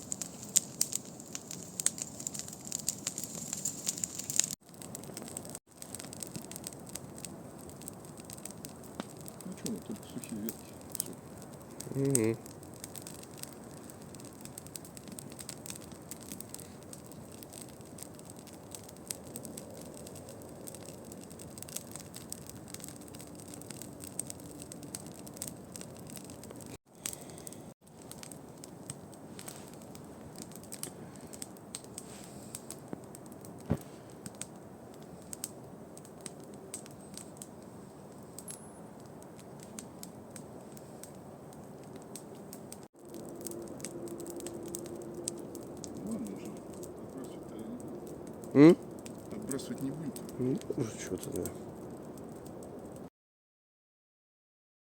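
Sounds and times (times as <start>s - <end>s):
campfire crackling and popping: 0.0s - 53.1s.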